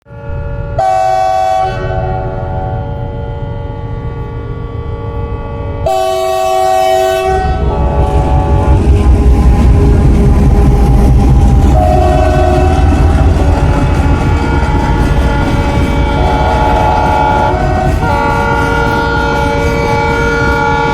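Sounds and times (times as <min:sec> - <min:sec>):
locomotive multi-note horn: 0:00.1 - 0:20.9
train rumbling and rattling past: 0:00.1 - 0:20.9.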